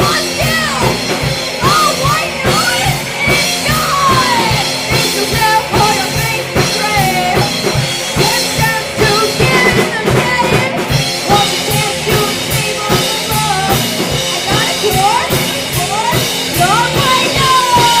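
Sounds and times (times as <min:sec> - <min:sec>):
drum kit beat: 0:00.0 - 0:18.0
rock band playing: 0:00.0 - 0:18.0.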